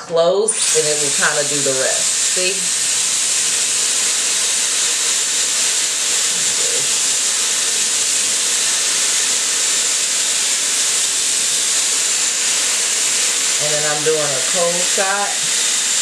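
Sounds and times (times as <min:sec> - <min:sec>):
hair styler blowing air: 0:00.0 - 0:16.0.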